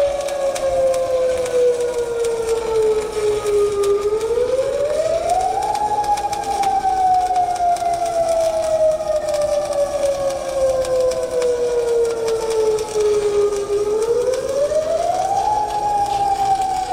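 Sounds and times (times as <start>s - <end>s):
warning siren wailing: 0.0s - 16.9s
welding arc crackle: 0.0s - 16.9s.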